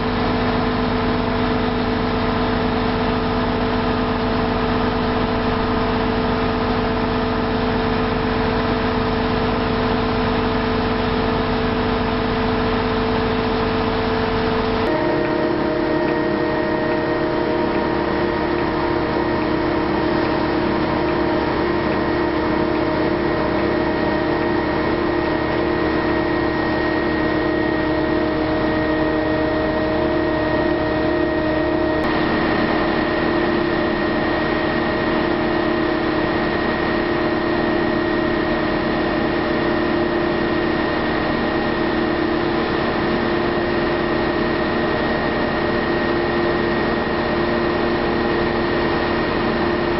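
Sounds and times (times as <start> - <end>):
heavy engine humming: 0.0 - 49.9.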